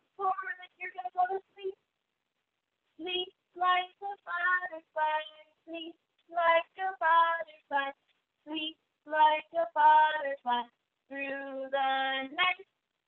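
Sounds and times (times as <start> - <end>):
woman singing a children's song: 0.0 - 1.8, 3.0 - 12.7.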